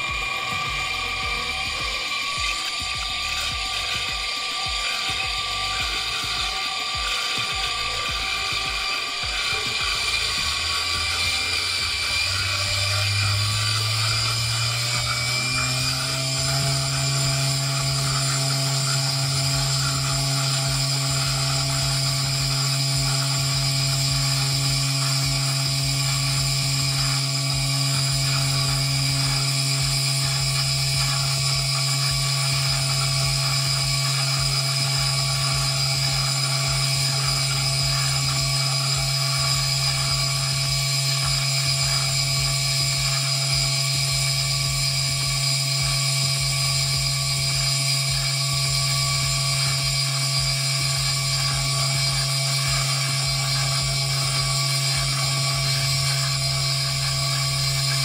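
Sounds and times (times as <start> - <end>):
motor humming and whining: 0.0 - 58.0.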